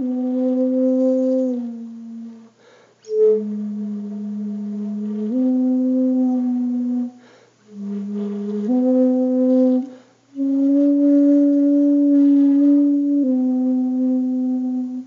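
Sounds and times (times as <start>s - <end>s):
slow melody of long notes: 0.0s - 15.0s.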